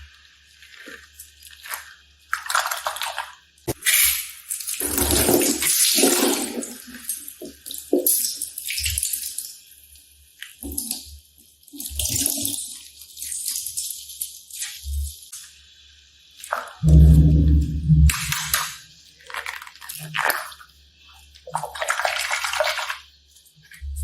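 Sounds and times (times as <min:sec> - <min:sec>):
wet slime squelching: 0:00.0 - 0:09.6, 0:10.3 - 0:15.3, 0:16.4 - 0:24.0.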